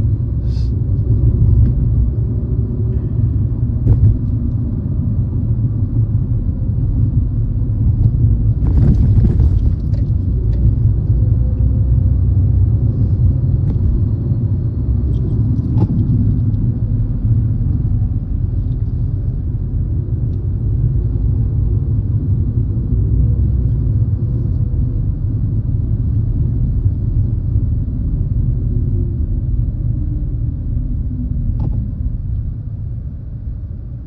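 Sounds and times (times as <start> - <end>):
car engine rumble: 0.0 - 34.0
road noise: 0.0 - 34.0.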